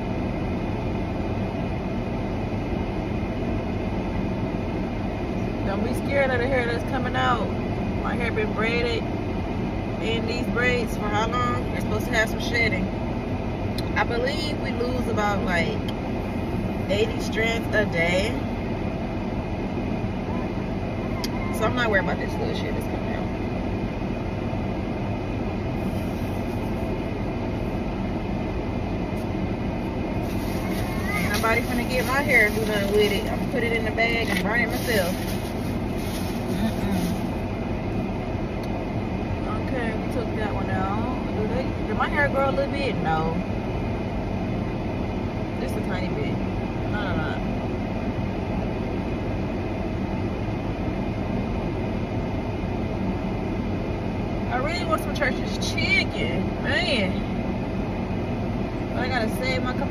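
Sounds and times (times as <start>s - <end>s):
vehicle rumble inside cabin: 0.0s - 59.9s.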